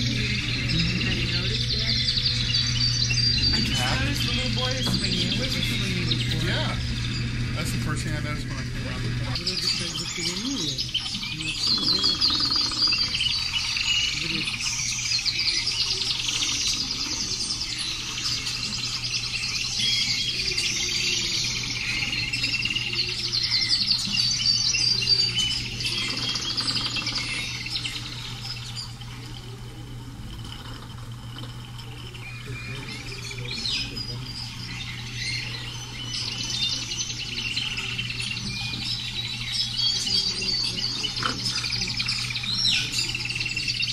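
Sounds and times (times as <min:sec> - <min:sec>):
birds chirping and twittering: 0:00.0 - 0:43.9
steady low hum: 0:00.0 - 0:43.9.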